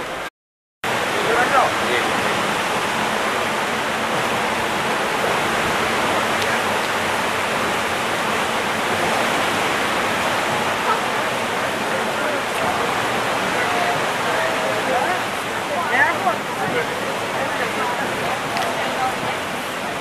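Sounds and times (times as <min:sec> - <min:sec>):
choppy sea water hissing: 0:00.9 - 0:20.0.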